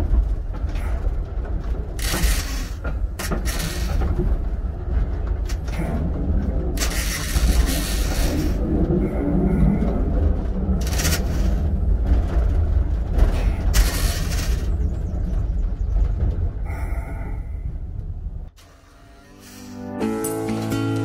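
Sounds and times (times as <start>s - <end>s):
railcar rumbling on track: 0.0s - 19.8s.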